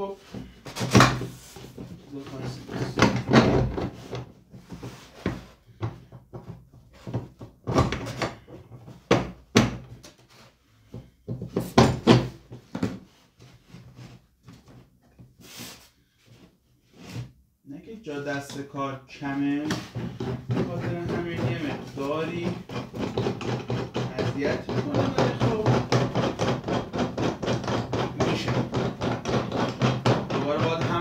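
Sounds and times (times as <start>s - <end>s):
knocking and scraping: 0.0s - 17.4s, 18.4s - 31.0s.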